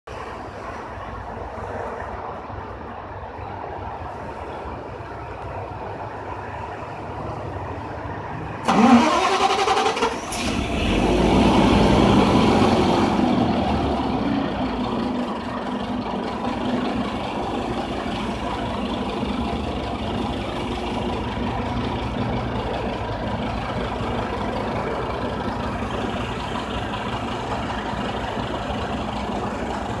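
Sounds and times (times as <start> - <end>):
bus engine starting and idling: 0.1 - 30.0.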